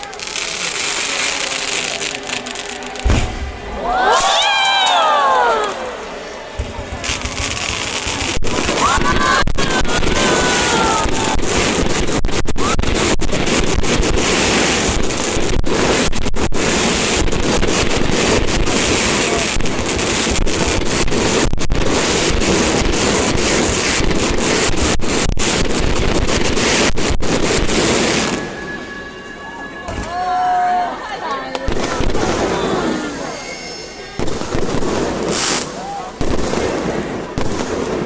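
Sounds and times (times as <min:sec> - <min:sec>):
fireworks barrage: 0:00.0 - 0:38.0.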